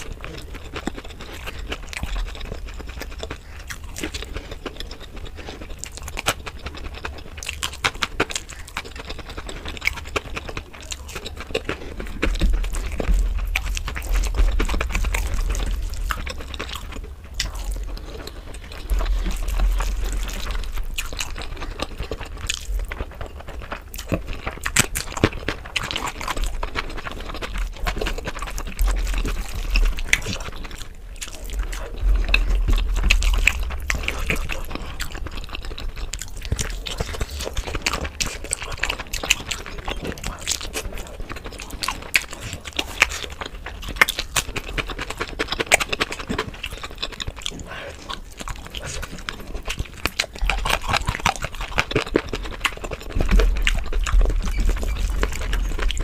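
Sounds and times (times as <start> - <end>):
wet chewing and mouth smacks: 0.0 - 56.0.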